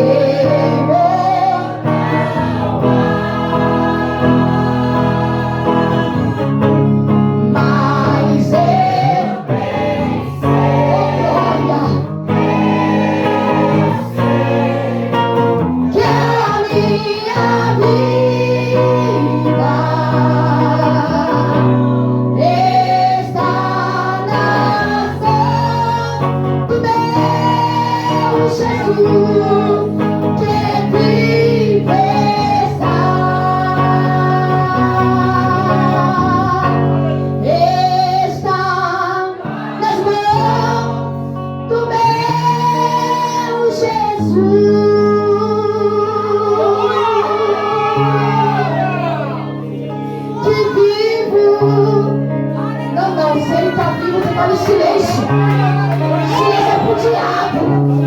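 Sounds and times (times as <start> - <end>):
gospel singing: 0.0 - 58.0
guitar and instruments playing: 0.0 - 58.0.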